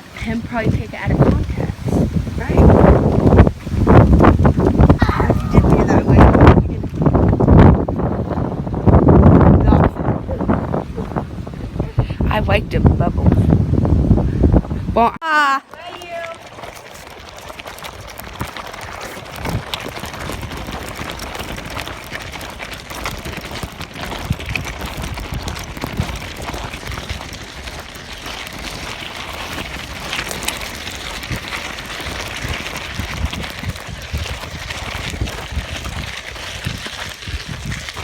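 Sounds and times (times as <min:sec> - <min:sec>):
wind buffeting microphone: 0:00.0 - 0:15.2, 0:16.0 - 0:38.0.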